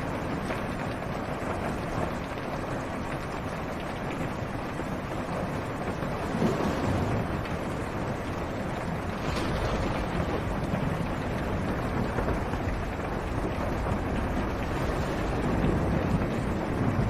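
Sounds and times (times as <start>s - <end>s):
constant low rumble: 0.0s - 17.0s
rain on car roof: 0.0s - 17.0s.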